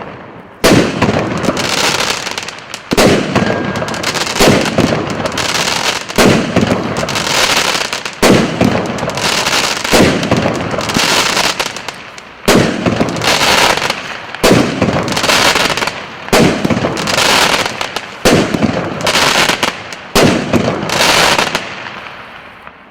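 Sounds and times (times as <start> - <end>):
fireworks bangs: 0.0 - 22.9
fireworks hissing and crackling: 0.0 - 22.9.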